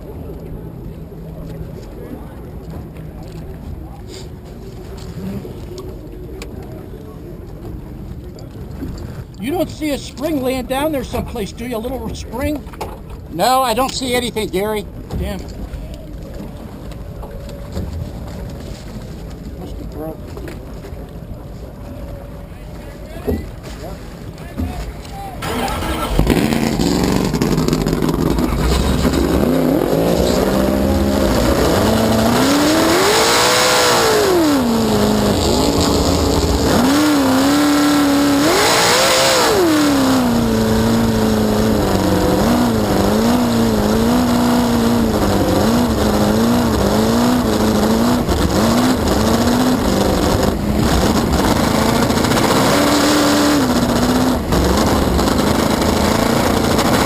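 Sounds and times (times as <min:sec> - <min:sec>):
boat engine running hard: 0:00.0 - 0:57.0.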